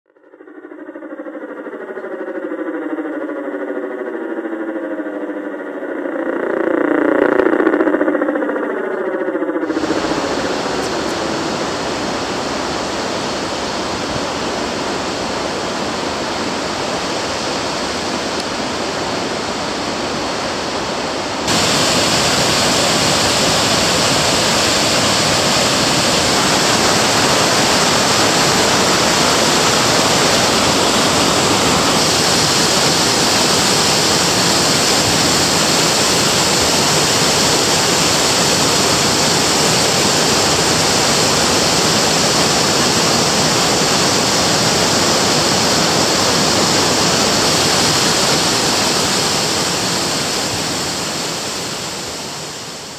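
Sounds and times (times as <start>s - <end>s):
water crashing over spillway: 9.6s - 52.9s.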